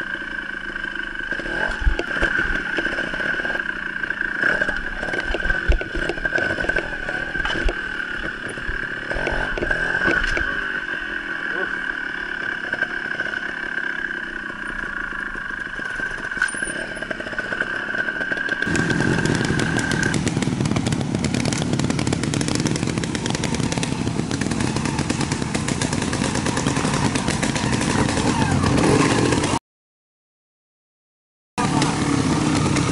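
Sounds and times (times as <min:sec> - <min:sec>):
fast-pulsing engine: 0:00.0 - 0:29.6, 0:31.6 - 0:32.9
motorcycle engine running: 0:00.0 - 0:29.6, 0:31.6 - 0:32.9.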